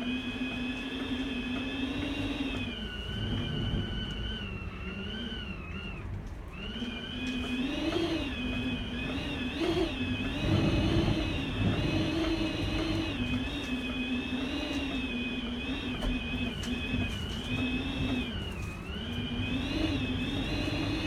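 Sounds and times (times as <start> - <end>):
wind whistling: 1.8 - 21.0.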